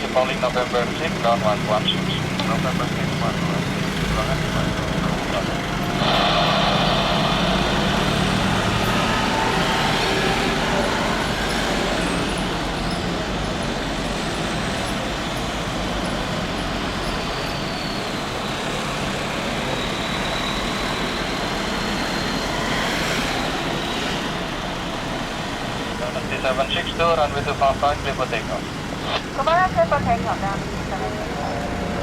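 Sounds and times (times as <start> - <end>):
high engine whine: 0.0 - 32.0
jet engines rushing: 0.0 - 32.0.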